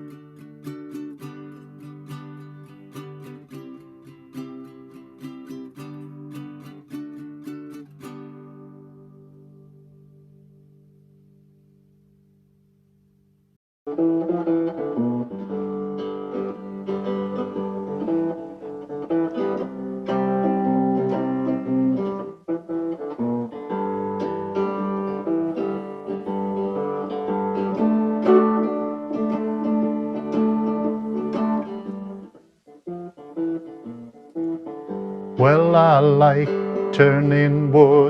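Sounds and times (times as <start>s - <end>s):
guitar strumming chords: 0.0s - 12.0s, 13.9s - 38.0s.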